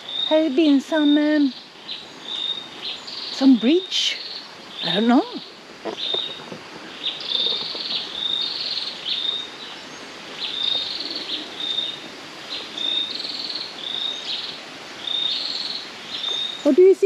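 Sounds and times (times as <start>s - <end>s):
soft background hiss: 0.0s - 17.0s.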